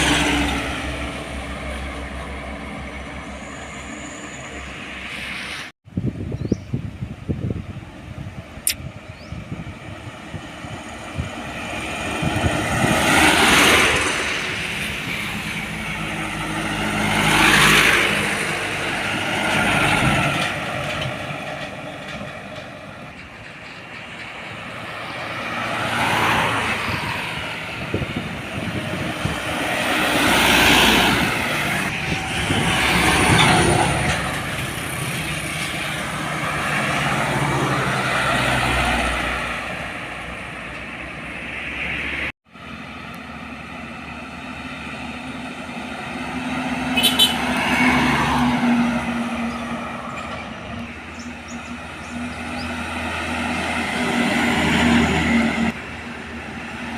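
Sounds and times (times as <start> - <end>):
trucks driving past: 0.0 - 6.2, 7.3 - 56.9.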